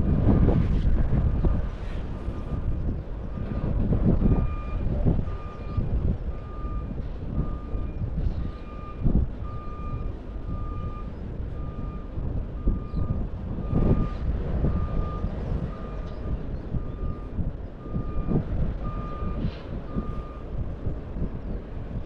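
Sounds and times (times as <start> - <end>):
wind buffeting microphone: 0.0 - 22.0
reversing alarm beeping: 2.2 - 20.6.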